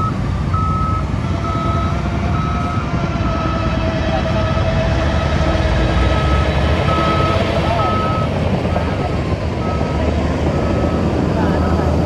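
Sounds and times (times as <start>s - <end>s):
reversing alarm beeping: 0.0s - 11.2s
diesel engine rumble: 0.0s - 12.0s
steady whine: 0.0s - 12.0s.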